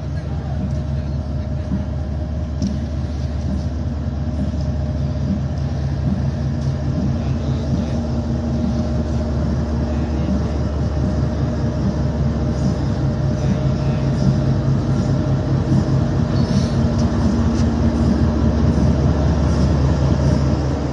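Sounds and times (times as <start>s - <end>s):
diesel locomotive engine droning: 0.0s - 20.9s.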